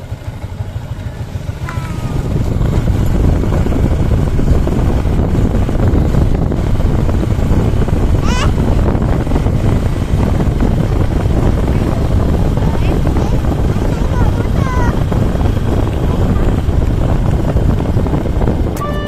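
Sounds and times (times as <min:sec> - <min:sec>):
motorcycle engine running: 0:00.0 - 0:19.0
wind rumble on microphone: 0:00.0 - 0:19.0.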